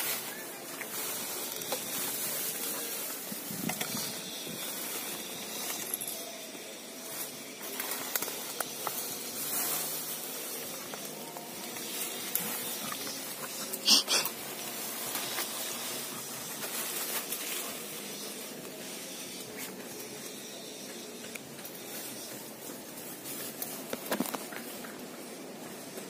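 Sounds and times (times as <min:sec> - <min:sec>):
rustles: 0:00.0 - 0:26.0.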